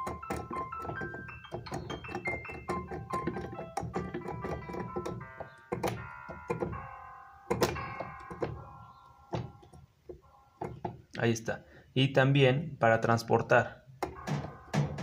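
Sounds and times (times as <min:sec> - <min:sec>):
piano notes and chords: 0:00.0 - 0:11.1, 0:14.0 - 0:15.0
keyboard keys thunking: 0:00.0 - 0:11.2, 0:14.0 - 0:15.0.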